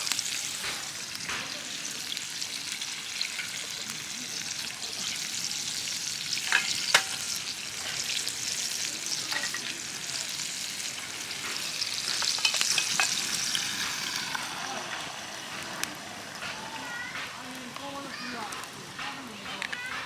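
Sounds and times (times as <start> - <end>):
food sizzling and crackling: 0.0 - 20.0.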